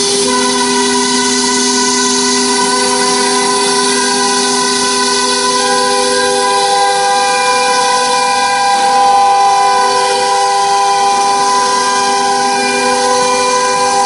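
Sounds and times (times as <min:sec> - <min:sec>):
router spindle whine: 0:00.0 - 0:14.0.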